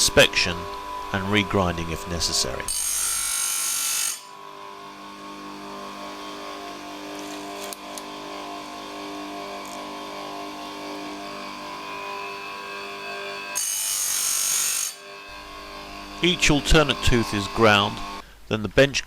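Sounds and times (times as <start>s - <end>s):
grinder motor humming: 0.0s - 18.2s.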